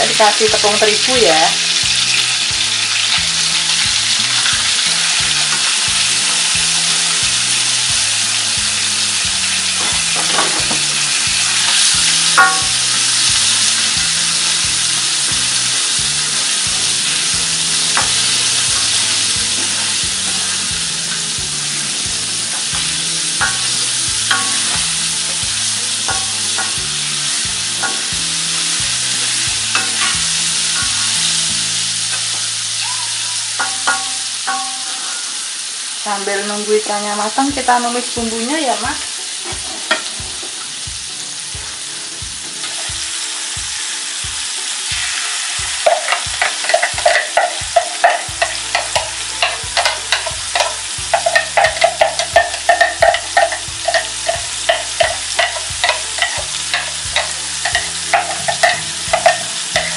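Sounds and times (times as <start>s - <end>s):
fish sizzling in hot oil: 0.0s - 59.9s
metal spatula scraping pan: 0.1s - 35.7s, 39.4s - 40.8s, 45.8s - 59.9s.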